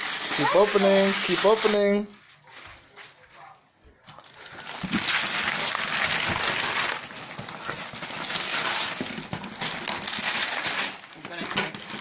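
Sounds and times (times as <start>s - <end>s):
wrapping paper tearing and crinkling: 0.0s - 2.0s, 4.1s - 12.0s.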